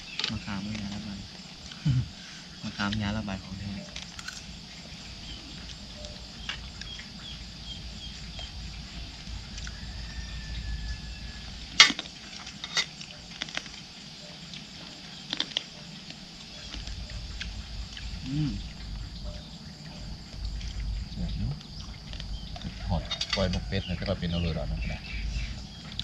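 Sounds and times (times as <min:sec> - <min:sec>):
high-pitched insect chirring: 0:00.0 - 0:26.0.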